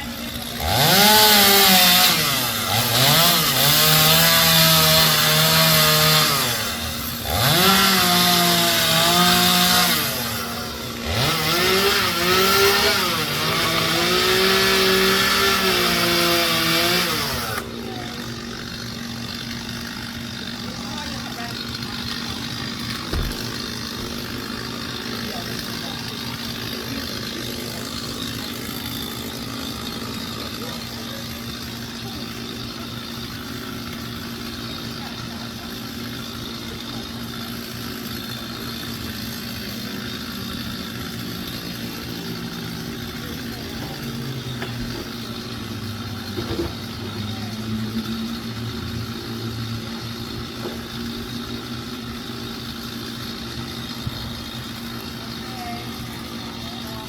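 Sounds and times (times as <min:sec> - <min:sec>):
heavy machine engine running: 0:00.0 - 0:57.0.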